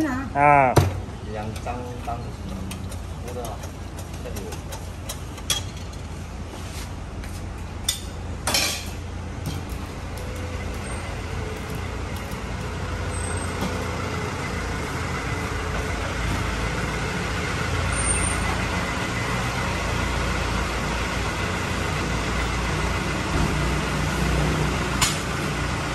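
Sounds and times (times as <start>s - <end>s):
road traffic rumble: 0.0s - 25.9s.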